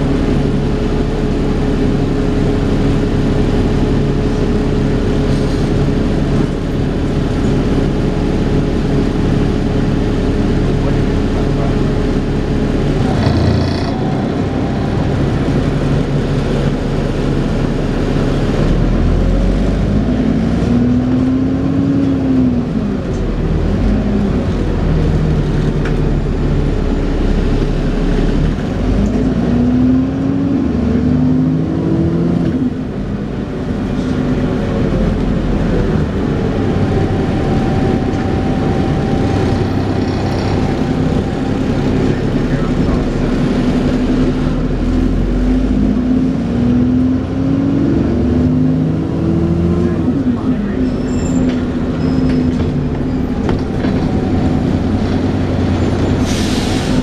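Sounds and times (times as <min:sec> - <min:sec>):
bus engine accelerating: 0:00.0 - 0:57.0.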